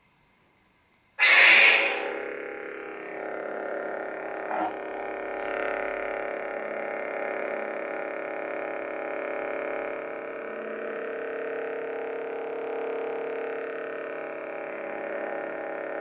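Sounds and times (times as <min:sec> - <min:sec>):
lightsaber electronic hum: 0:01.1 - 0:16.0.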